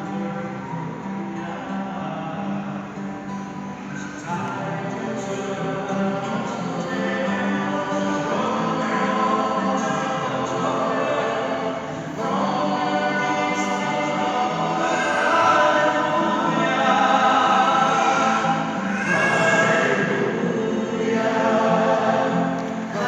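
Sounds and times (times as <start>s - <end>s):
choir singing in harmony: 0.0s - 23.0s.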